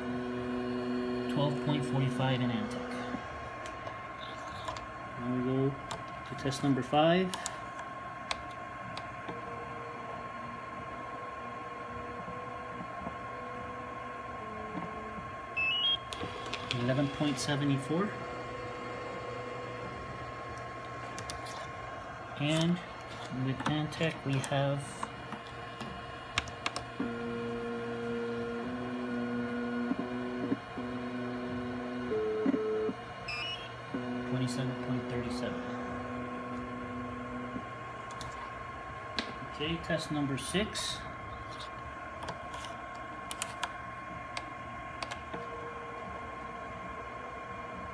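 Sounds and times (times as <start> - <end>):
drive motor whining: 0.0 - 38.8
faint steady analyzer hum: 0.0 - 47.9.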